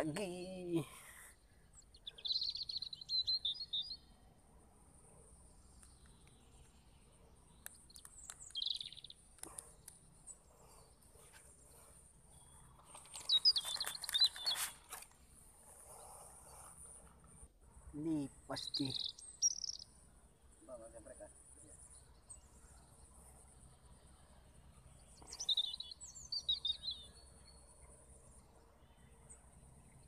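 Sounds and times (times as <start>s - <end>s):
small bird chirping: 0.0s - 4.3s, 4.9s - 15.1s, 15.7s - 30.0s.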